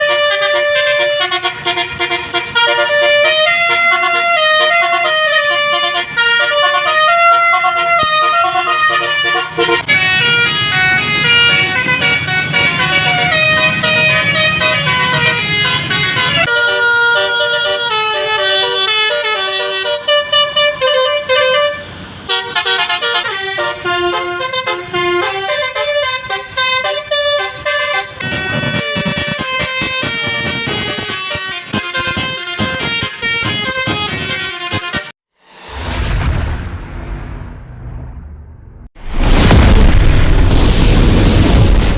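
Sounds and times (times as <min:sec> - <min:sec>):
musical air horn melody: 0:00.0 - 0:35.2
bus passing close: 0:00.0 - 0:36.4.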